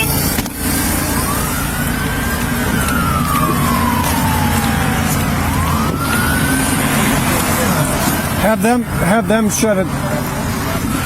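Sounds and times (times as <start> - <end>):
emergency siren wailing: 0.0 - 11.0
low vehicle engine rumble: 0.0 - 11.0.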